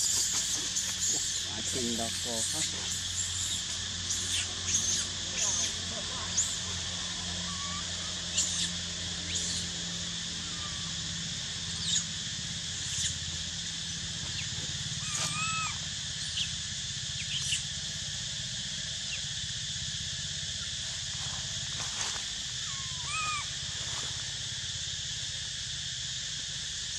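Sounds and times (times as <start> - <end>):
insect drone: 0.0 - 26.9.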